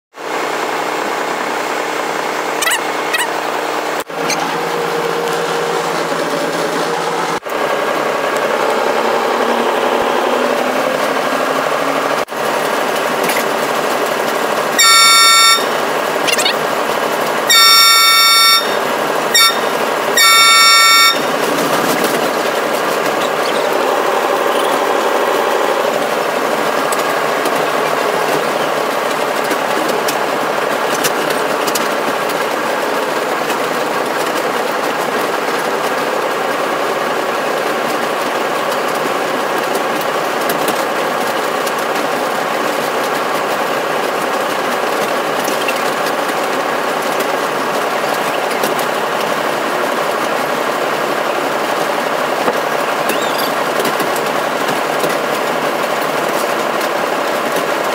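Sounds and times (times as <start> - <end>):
diesel engine running: 0.2 - 57.9.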